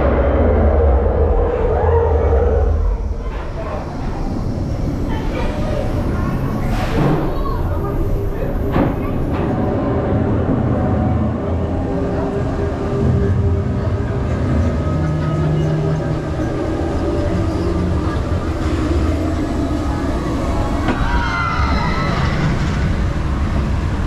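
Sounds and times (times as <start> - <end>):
roller coaster wheels rumbling: 0.0 - 24.0.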